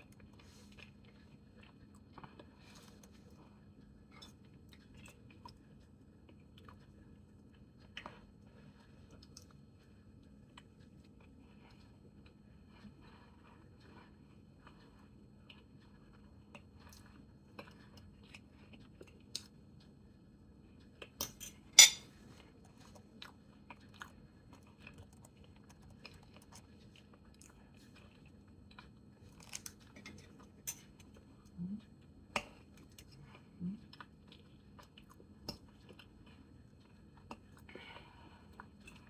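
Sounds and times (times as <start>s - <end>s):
person chewing food: 0.0s - 20.0s, 22.1s - 39.0s.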